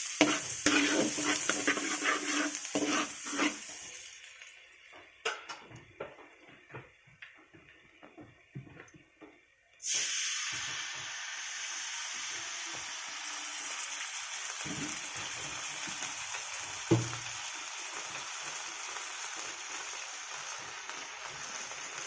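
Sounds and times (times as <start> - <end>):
chicken sizzling in a pan: 0.0 - 5.6, 9.8 - 22.0.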